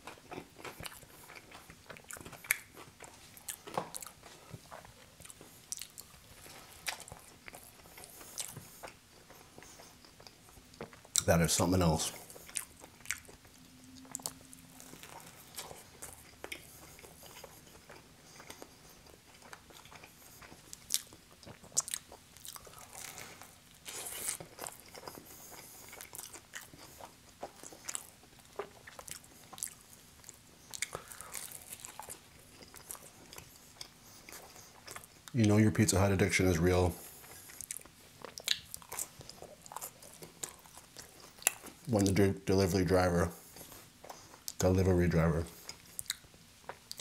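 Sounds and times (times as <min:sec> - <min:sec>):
pizza crust chewing crunches: 0:00.0 - 0:47.0.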